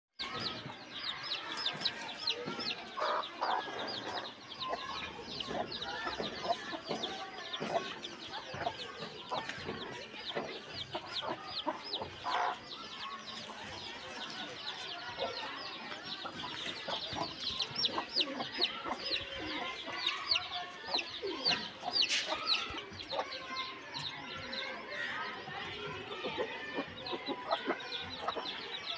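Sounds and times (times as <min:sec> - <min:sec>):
chickens clucking: 0:00.2 - 0:28.9.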